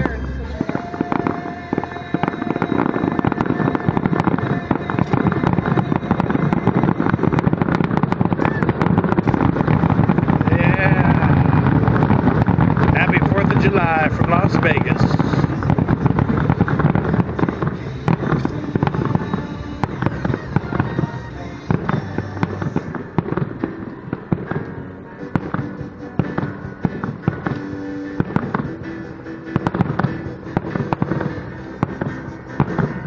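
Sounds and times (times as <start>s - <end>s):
fireworks bangs and crackles: 0.0s - 33.0s
music playing: 0.0s - 33.0s.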